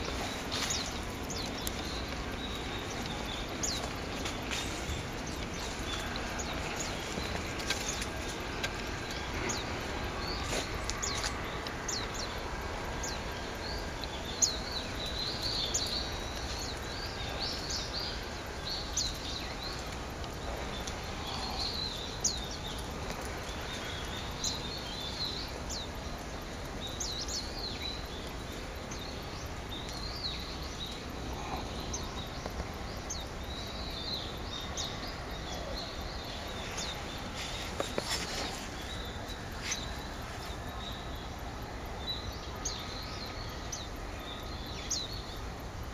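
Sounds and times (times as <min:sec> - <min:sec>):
low background noise: 0:00.0 - 0:45.9
songbirds chirping: 0:00.0 - 0:45.9.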